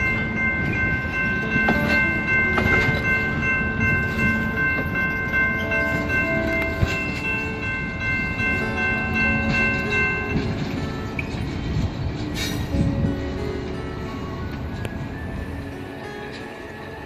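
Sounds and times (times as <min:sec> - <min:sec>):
crossing warning bell ringing: 0:00.0 - 0:17.0
train wheels rumbling on rails: 0:00.0 - 0:17.0.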